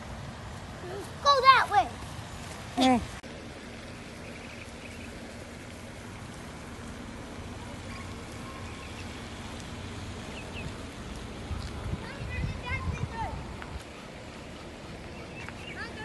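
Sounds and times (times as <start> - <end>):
birds chirping: 0.7 - 16.0.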